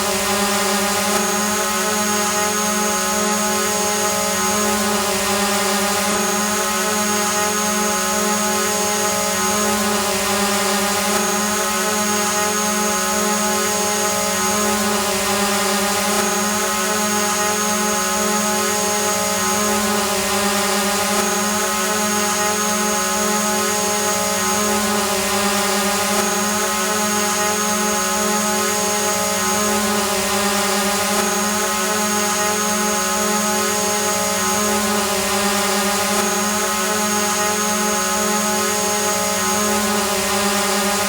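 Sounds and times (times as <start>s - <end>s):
drone propellers buzzing: 0.0s - 41.0s.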